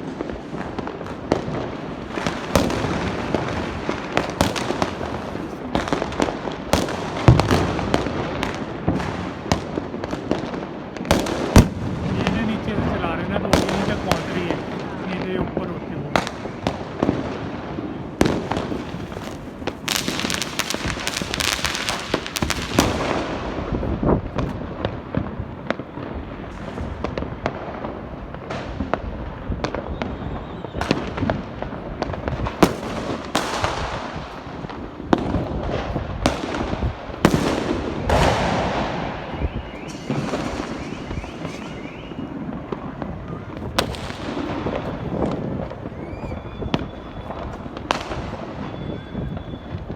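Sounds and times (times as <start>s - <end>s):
firecrackers crackling: 0.0s - 49.9s
firework bangs: 0.0s - 49.9s.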